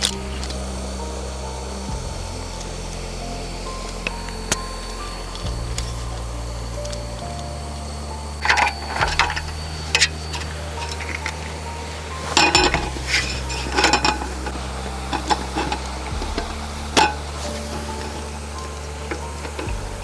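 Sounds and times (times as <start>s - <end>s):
metal cookware clinking: 0.0s - 20.0s
soft background music: 0.0s - 20.0s.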